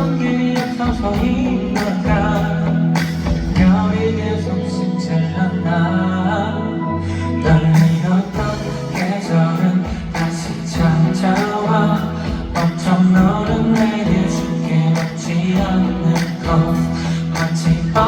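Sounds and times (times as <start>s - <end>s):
band playing pop music: 0.0s - 18.0s
held bass line: 0.0s - 18.0s
male singer: 0.0s - 18.0s.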